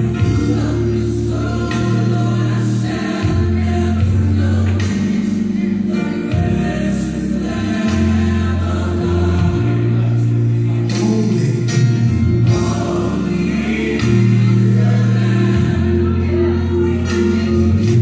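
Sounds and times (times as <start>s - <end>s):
gospel choir singing: 0.0s - 18.0s.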